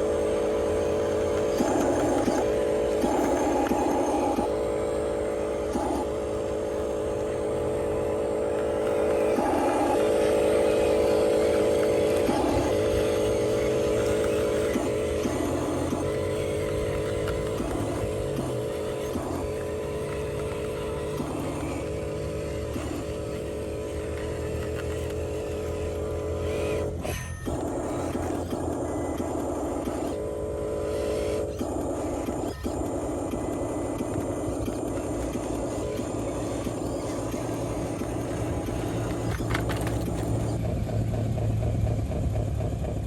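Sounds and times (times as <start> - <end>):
toy electric motors whirring: 0.0 - 43.0.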